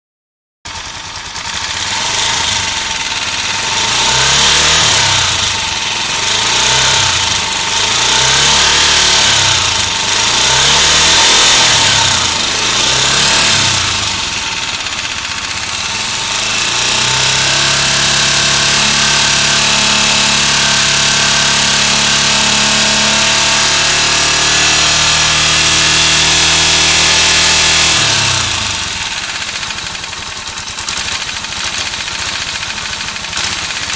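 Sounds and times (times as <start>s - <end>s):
motorcycle engine revving: 0.7s - 33.9s.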